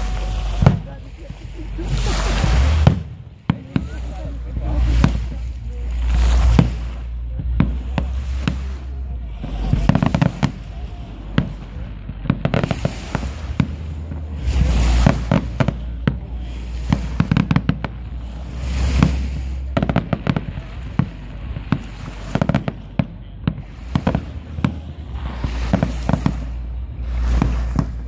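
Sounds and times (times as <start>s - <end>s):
fireworks bangs and crackles: 0.0s - 28.0s
heavy fireworks booms: 0.0s - 28.0s.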